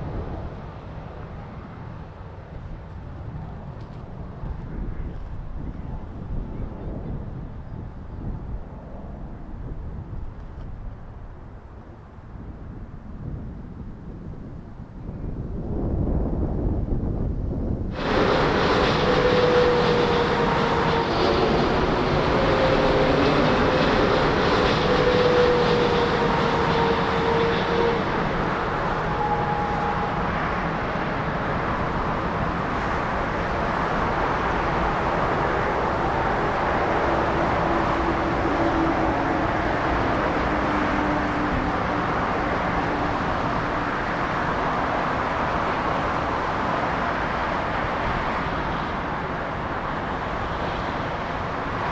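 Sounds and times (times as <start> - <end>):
jet engines rushing and whining: 0.0 - 51.9.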